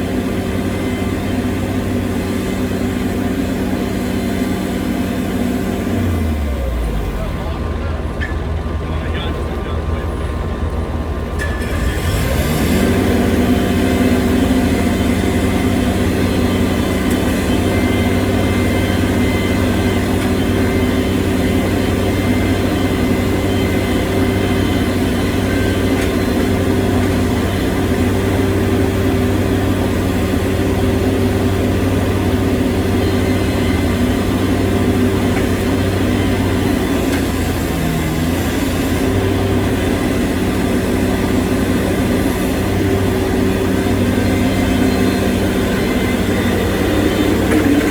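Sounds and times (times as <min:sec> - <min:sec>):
heavy machine engine running: 0:00.0 - 0:47.9.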